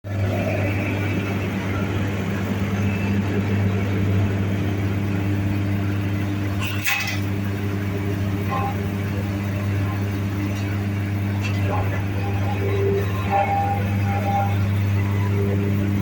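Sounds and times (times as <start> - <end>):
hay grinder machine hum: 0.1 - 16.0.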